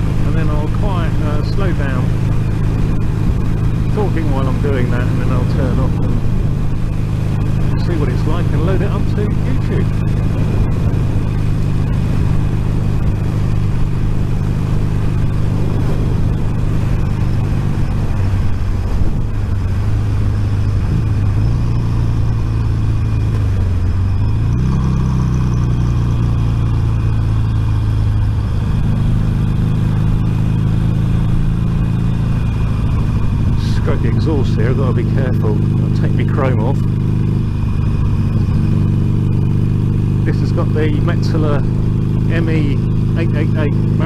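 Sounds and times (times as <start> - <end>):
motorcycle engine: 0.0 - 44.0
wind and road noise: 0.0 - 44.0.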